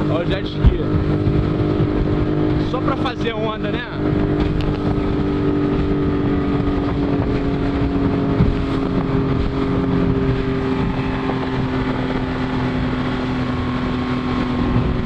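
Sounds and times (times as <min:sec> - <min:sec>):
outboard motor droning: 0:00.0 - 0:15.0
water rushing along hull: 0:00.0 - 0:15.0.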